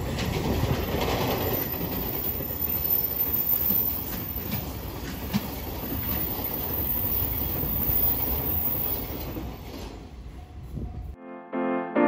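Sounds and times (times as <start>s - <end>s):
wheels clicking over rail joints: 0.0s - 10.2s
freight train wheels rumbling: 0.0s - 11.2s.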